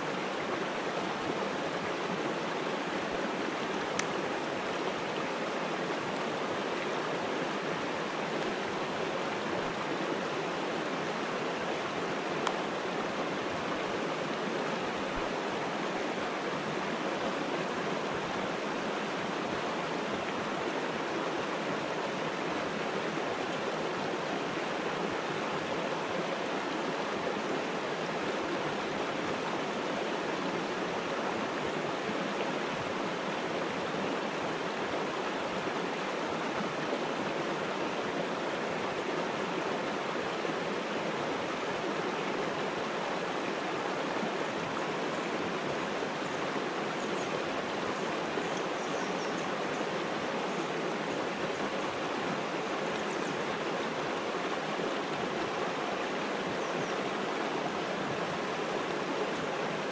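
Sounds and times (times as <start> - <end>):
river rushing over boulders: 0.0 - 59.9.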